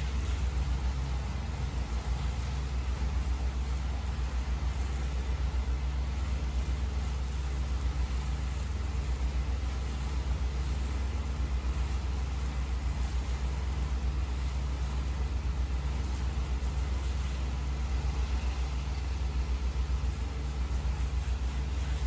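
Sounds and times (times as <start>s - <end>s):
engine pulsing drone: 0.0s - 22.0s.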